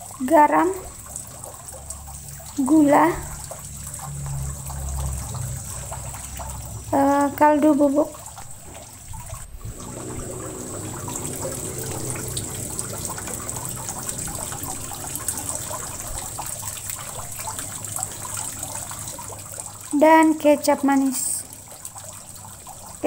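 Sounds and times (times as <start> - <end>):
broth simmering in a frying pan: 0.0 - 23.0.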